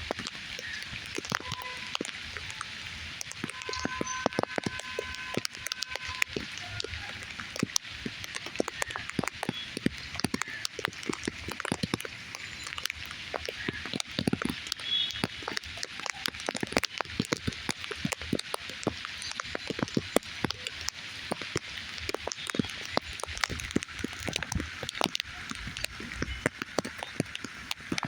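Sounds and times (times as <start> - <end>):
rain hissing: 0.0 - 28.0
raindrops tapping on a surface: 0.0 - 28.0.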